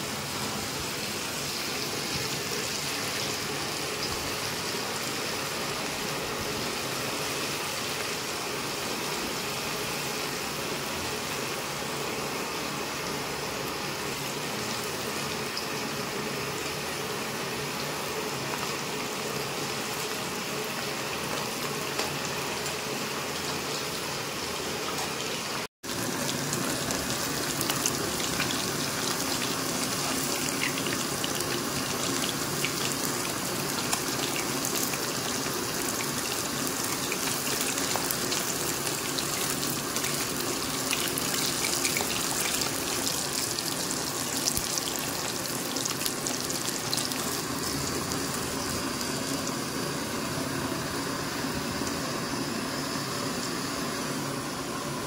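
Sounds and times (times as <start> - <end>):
fish sizzling in oil: 0.1 - 54.2.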